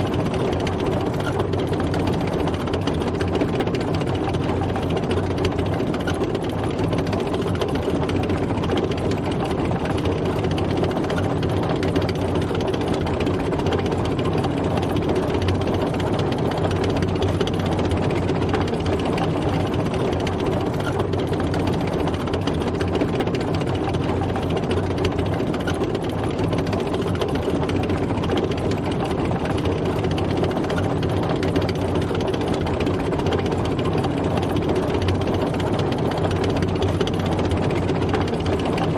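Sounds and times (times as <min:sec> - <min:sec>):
tank engine running: 0:00.0 - 0:38.9.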